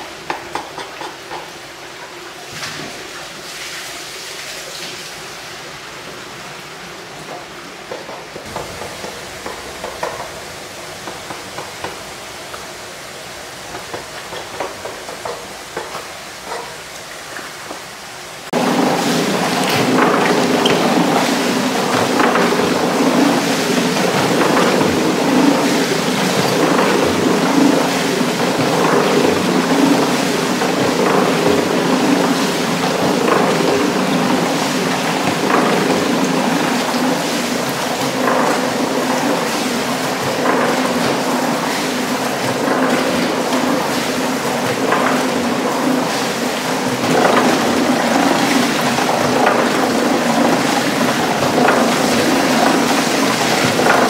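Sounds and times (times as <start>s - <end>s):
factory room noise: 0.0s - 54.0s
hose water gushing into tank: 7.8s - 54.0s.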